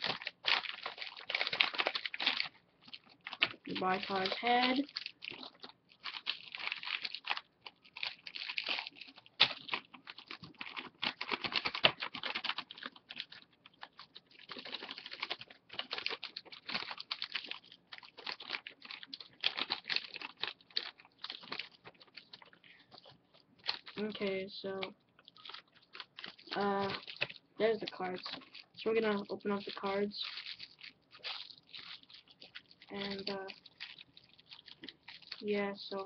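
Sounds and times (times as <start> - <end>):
plastic packaging crinkling: 0.0 - 36.0.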